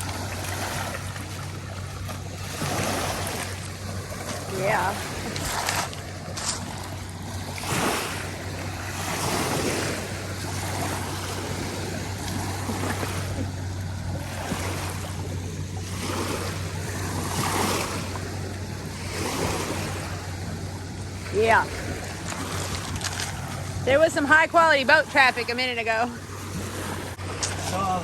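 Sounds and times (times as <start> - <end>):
small waves washing ashore: 0.0 - 28.0
steady low hum: 0.0 - 28.0.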